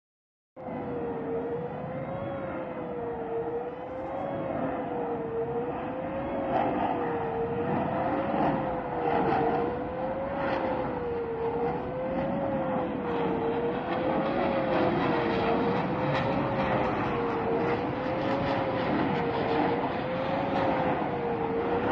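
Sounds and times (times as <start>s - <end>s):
jet aircraft noise: 0.6s - 21.9s
wavering warning siren: 0.6s - 21.9s.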